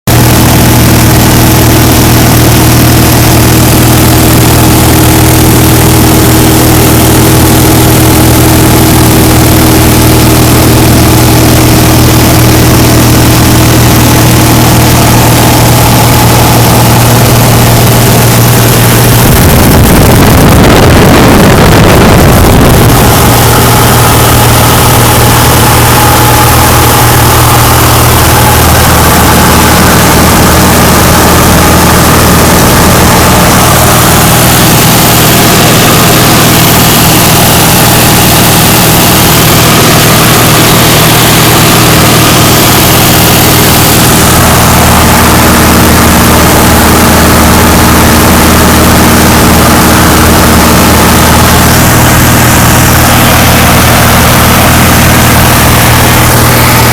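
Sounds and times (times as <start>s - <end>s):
propeller plane engine droning: 0.0s - 56.9s.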